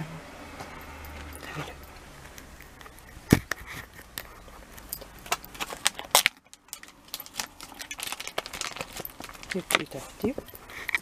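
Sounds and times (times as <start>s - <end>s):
dog tags jingling: 0.8s - 3.3s, 3.9s - 11.0s.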